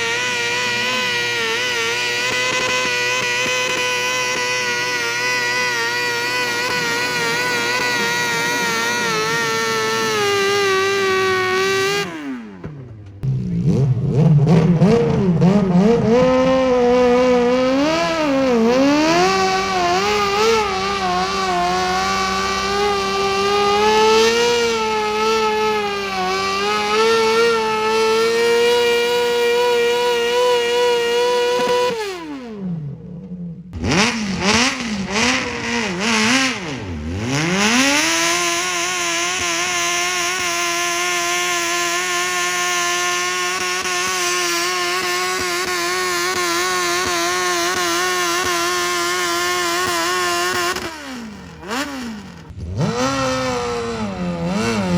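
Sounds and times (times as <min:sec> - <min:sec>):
tractor engine revving: 0:00.0 - 0:54.9.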